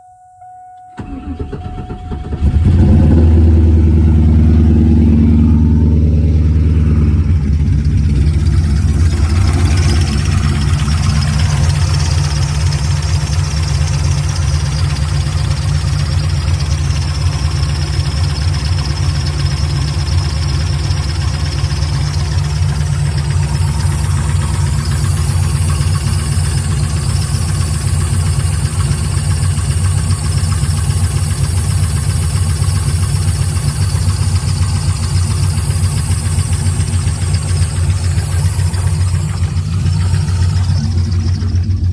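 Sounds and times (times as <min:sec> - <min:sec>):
engine starter cranking: 0:00.9 - 0:41.9
engine idling with valvetrain noise: 0:01.0 - 0:41.9.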